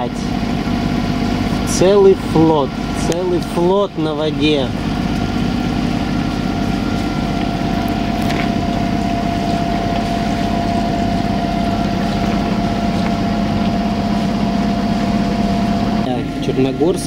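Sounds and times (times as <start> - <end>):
boat engine droning: 0.0 - 17.0
high engine whine: 0.0 - 17.0.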